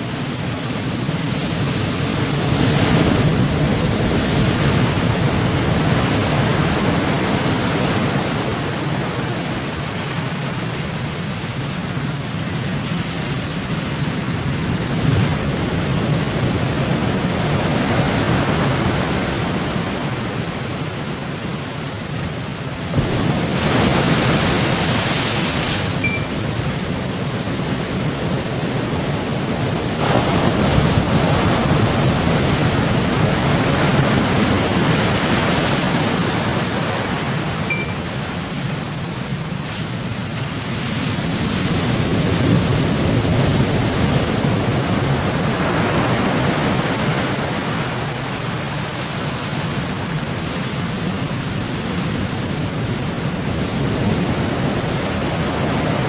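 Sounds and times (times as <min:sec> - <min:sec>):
waves washing against a boat: 0:00.0 - 0:56.0.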